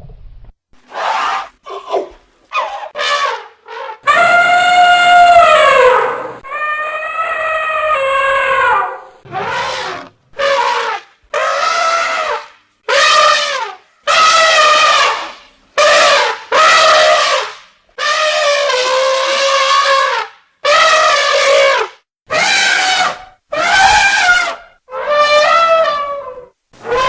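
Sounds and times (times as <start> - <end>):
elephant trumpeting: 0.9 - 27.0.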